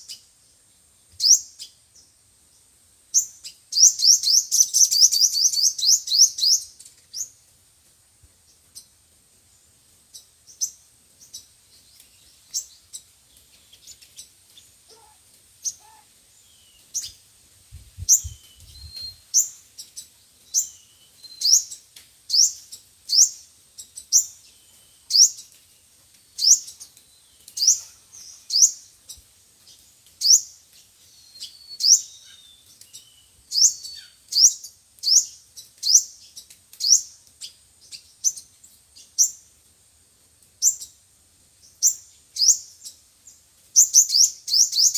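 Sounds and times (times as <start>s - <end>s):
bird chirping: 1.1s - 7.4s, 9.5s - 39.4s, 41.6s - 44.9s.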